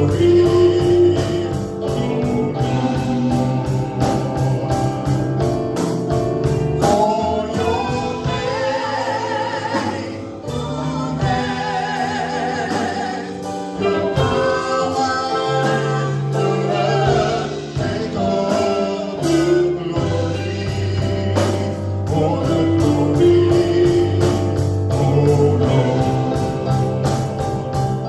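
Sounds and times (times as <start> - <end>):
gospel band with singers: 0.0 - 28.0.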